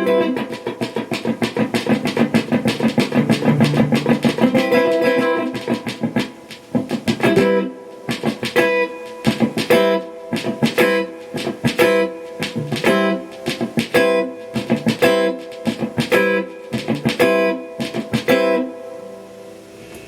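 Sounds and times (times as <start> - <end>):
electric guitar playing: 0.0 - 20.0.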